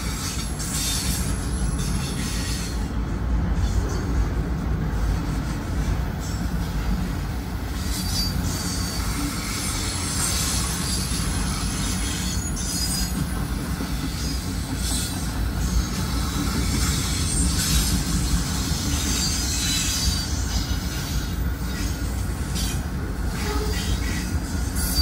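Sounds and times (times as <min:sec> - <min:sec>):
wheel squeal and hiss: 0:00.0 - 0:02.9, 0:07.7 - 0:25.0
train wheels rumbling on rail: 0:00.0 - 0:25.0.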